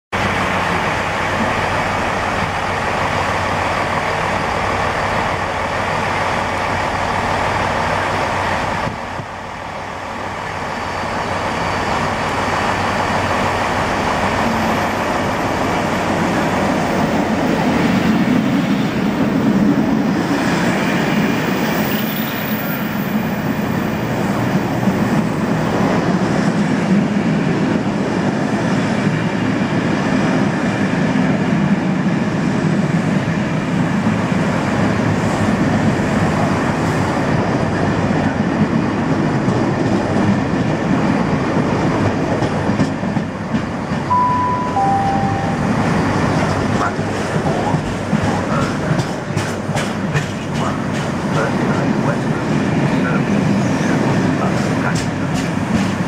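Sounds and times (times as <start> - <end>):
diesel locomotive rumble passing: 0.2 - 56.0
diesel train engines running: 0.2 - 56.0.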